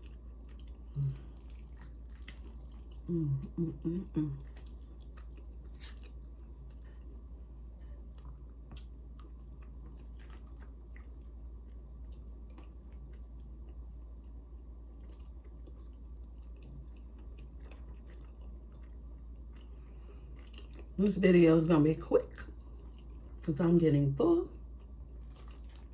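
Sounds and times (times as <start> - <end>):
person chewing soft food: 0.0 - 21.2, 22.2 - 23.5, 24.6 - 25.9
steady low hum: 0.0 - 25.9.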